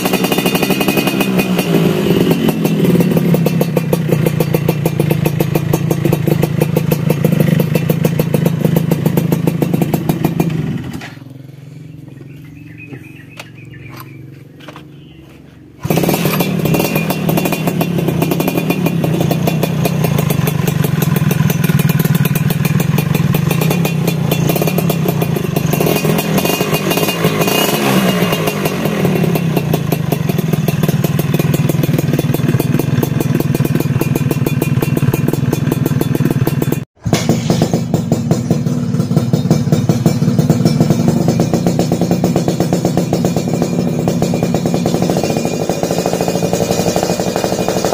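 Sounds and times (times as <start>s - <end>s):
two-stroke motorcycle engine buzzing: 0.0s - 47.9s.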